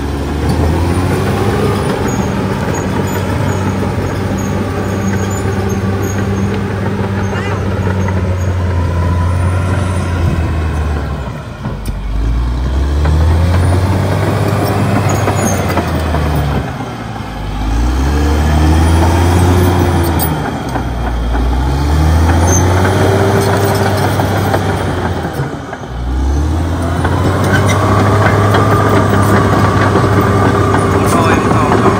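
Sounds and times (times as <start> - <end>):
bulldozer diesel engine revving: 0.0 - 31.9.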